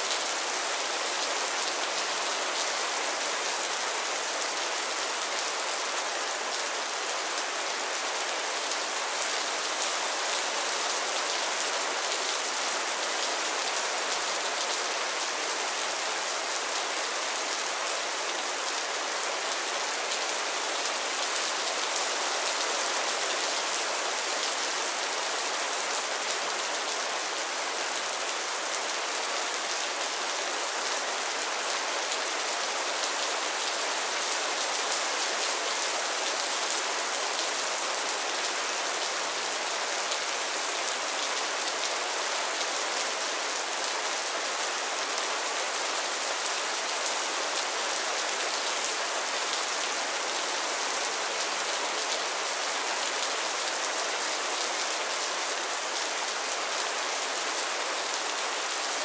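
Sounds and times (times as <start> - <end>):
rain falling on a roof: 0.0 - 59.0.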